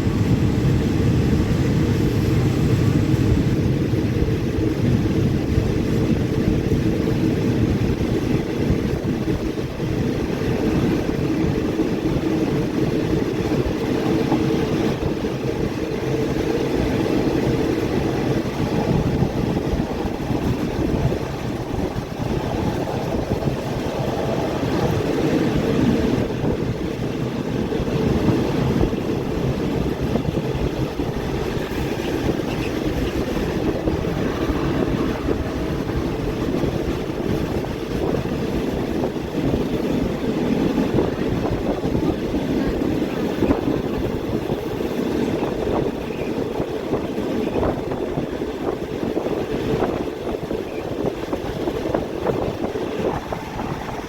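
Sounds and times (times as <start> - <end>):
train rumbling in motion: 0.0 - 54.0.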